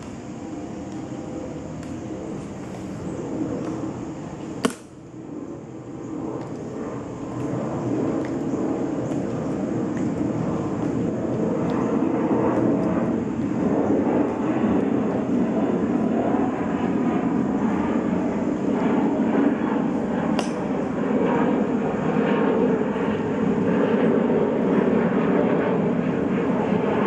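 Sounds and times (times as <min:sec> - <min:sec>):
aircraft passing overhead: 0:00.0 - 0:27.0.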